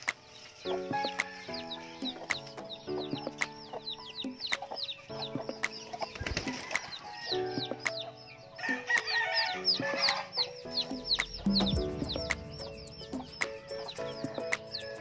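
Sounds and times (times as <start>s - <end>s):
chicks peeping: 0.2s - 15.0s.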